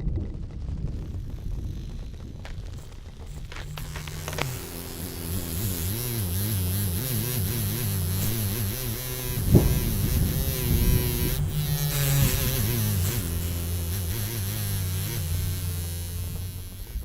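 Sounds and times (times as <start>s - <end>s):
low steady hum: 0.0s - 17.0s
warbling tones: 0.0s - 17.0s.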